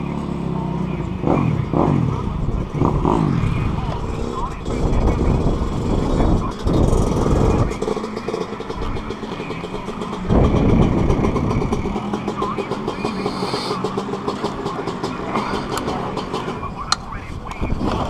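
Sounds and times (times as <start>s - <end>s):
dirt bike engines idling: 0.0s - 18.0s.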